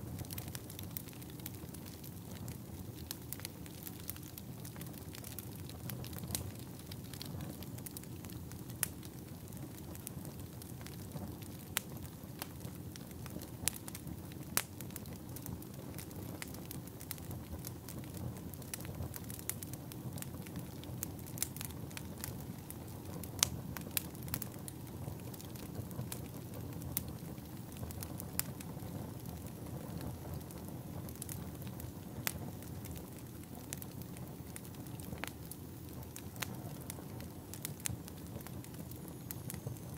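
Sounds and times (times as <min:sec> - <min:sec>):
fire crackling: 0:00.0 - 0:39.9
fire pops and snaps: 0:00.0 - 0:39.9.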